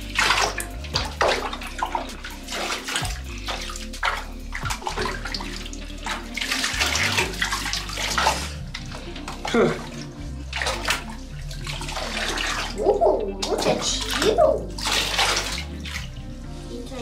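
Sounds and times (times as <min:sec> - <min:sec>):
water splashing in a bathtub: 0:00.0 - 0:17.0.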